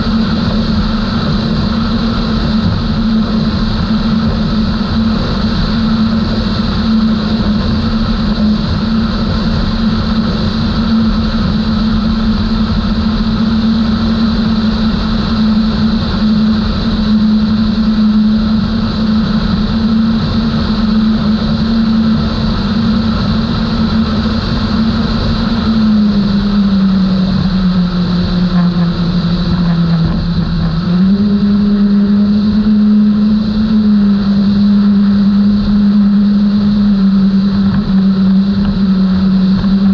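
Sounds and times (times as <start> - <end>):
outboard engines droning: 0.0 - 39.9
rush of water noise: 0.0 - 39.9.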